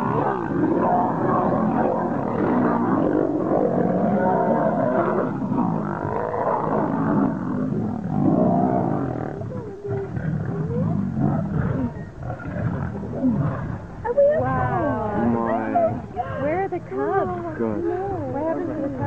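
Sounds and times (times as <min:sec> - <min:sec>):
lions growling and snarling: 0:00.0 - 0:19.0.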